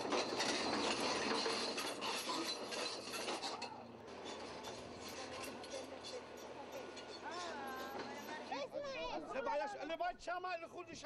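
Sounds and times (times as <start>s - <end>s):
bulldozer tracks clanking and grinding: 0.0s - 9.0s.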